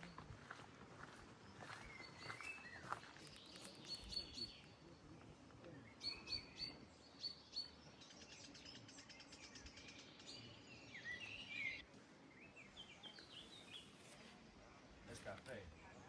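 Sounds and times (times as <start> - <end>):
faint songbirds singing: 0.0 - 16.0.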